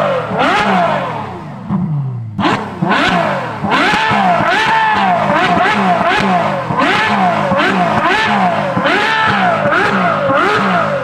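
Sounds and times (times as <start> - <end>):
car engine being blipped: 0.0 - 11.0.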